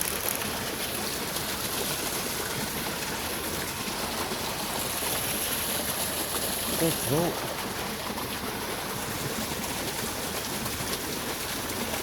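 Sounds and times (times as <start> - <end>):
rushing flowing water: 0.0 - 12.0.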